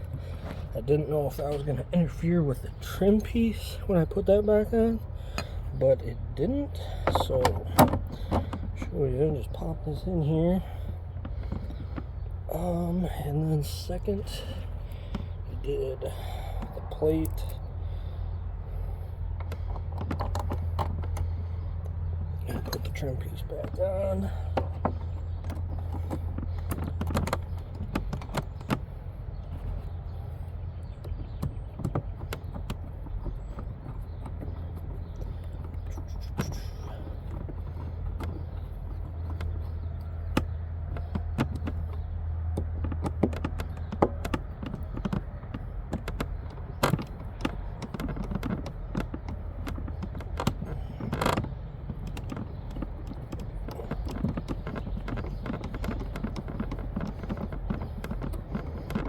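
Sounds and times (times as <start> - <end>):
plastic trim clicking and creaking: 0.0 - 59.0.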